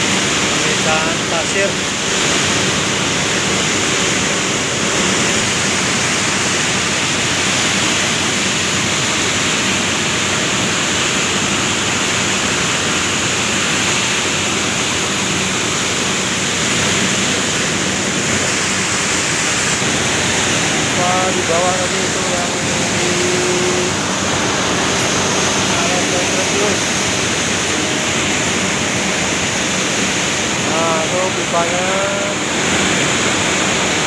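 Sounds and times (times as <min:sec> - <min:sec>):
centrifuge machinery hissing: 0:00.0 - 0:34.0.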